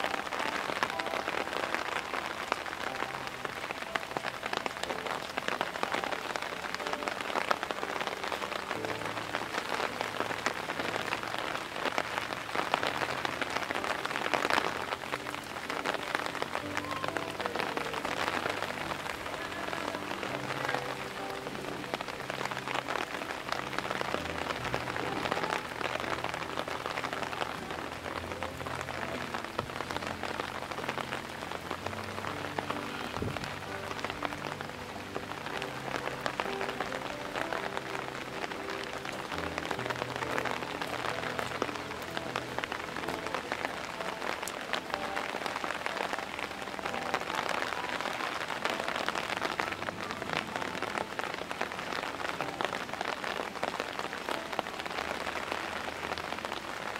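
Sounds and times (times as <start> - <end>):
heavy rain pattering: 0.0 - 56.9
soft background music: 0.0 - 56.9.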